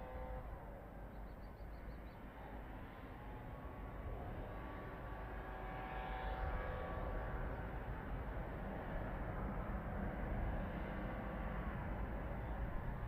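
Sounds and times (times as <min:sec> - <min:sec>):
faint drone: 0:00.0 - 0:13.0.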